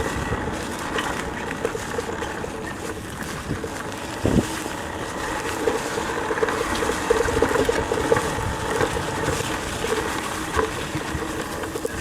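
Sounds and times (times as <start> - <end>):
electric motor and chain whining: 0.0 - 12.0.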